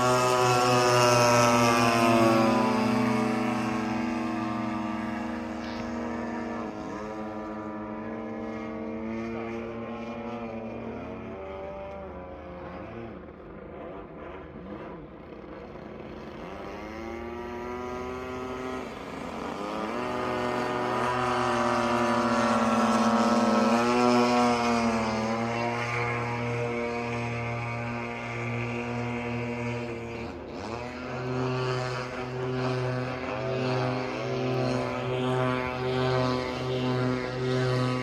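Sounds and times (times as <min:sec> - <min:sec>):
model plane engines buzzing: 0:00.0 - 0:38.0.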